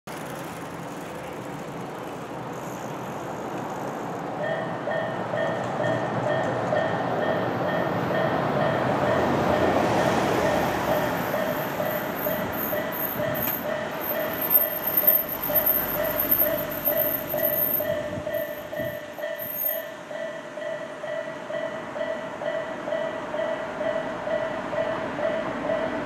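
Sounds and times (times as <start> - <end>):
train running noise: 0.1 - 26.0
railroad crossing bell: 2.6 - 26.0.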